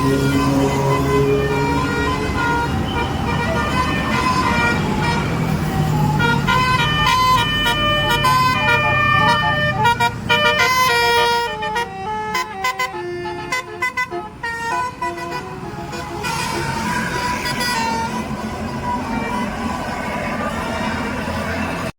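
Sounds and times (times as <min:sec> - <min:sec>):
bus musical horn tune: 0:00.0 - 0:21.0
bus engine rumbling: 0:00.0 - 0:21.9.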